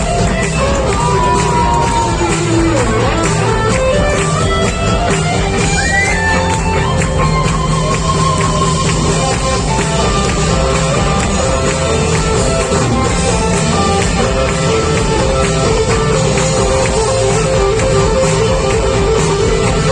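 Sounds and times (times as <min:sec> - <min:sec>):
live rock band playing: 0:00.0 - 0:19.9.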